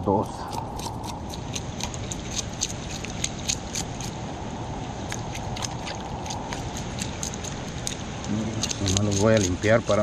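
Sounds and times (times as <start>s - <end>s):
rain and water hiss: 0.0s - 10.0s
knife scraping fish: 0.4s - 4.1s, 5.6s - 10.0s.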